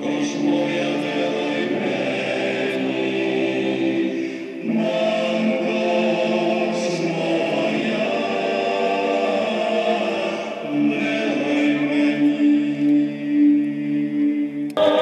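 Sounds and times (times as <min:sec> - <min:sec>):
choir singing long chords: 0:00.0 - 0:15.0.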